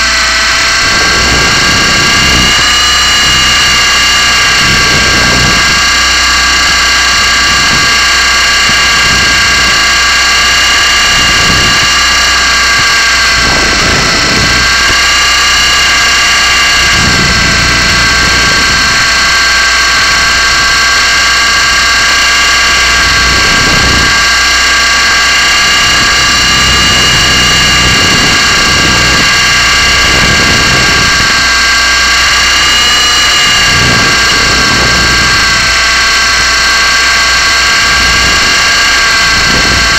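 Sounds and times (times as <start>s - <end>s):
low rumbles: 0.0s - 39.9s
small helicopter motor whine: 0.0s - 39.9s.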